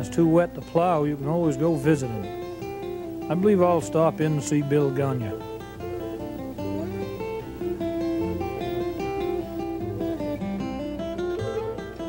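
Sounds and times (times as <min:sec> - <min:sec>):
plucked acoustic guitar tune: 0:00.0 - 0:12.0.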